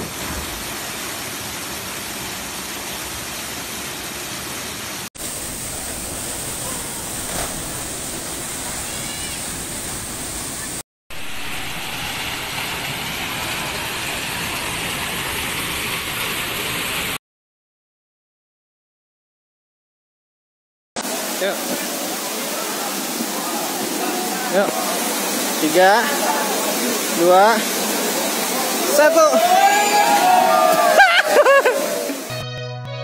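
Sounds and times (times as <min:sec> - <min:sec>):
waterfall rushing: 0:00.0 - 0:17.2, 0:21.0 - 0:32.4.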